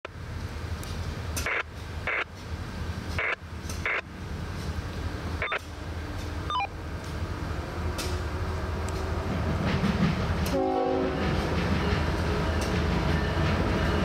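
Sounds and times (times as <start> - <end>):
diesel locomotive rumble: 0.0 - 14.0.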